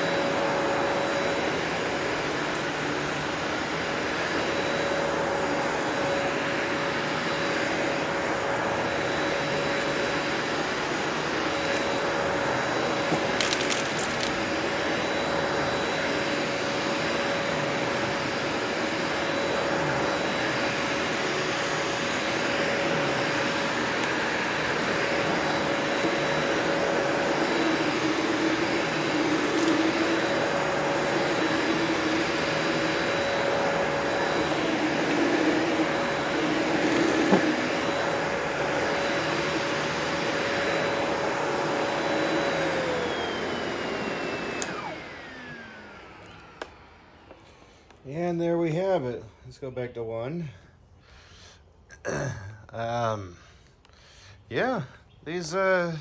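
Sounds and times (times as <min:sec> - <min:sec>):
vacuum crackle: 0:00.0 - 0:47.4
vacuum cleaner running: 0:00.0 - 0:49.8, 0:54.5 - 0:56.0.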